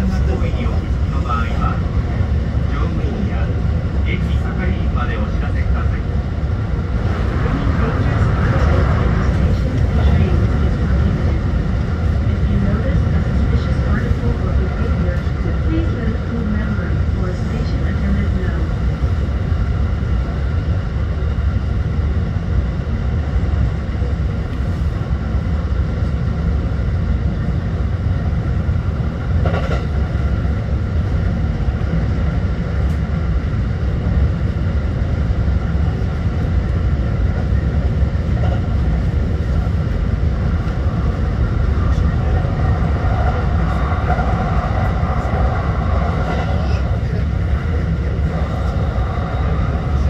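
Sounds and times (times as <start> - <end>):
high hum: 0.0 - 50.0
train wheels rumbling on rail: 0.0 - 50.0.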